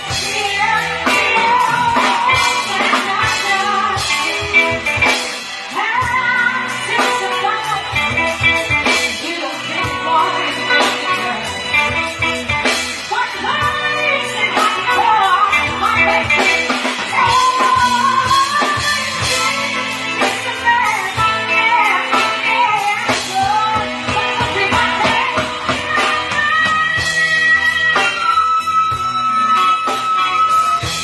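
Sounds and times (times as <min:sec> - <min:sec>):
drum kit: 0:00.0 - 0:31.0
electric guitar: 0:00.0 - 0:31.0
woman singing: 0:00.0 - 0:31.0.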